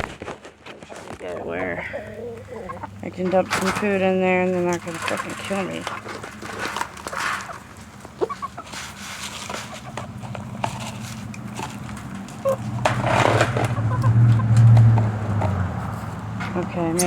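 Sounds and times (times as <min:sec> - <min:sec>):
chickens clucking: 0:00.7 - 0:17.0
rustles and knocks: 0:03.0 - 0:16.8.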